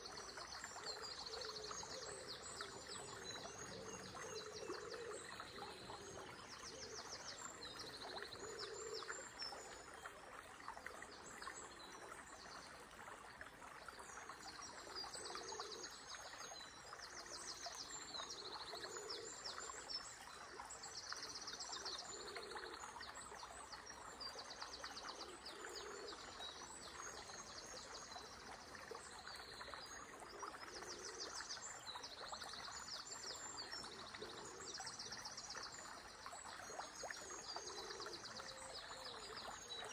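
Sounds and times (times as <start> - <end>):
flowing river water: 0.0 - 39.9
songbirds trilling and chirping: 0.0 - 39.9.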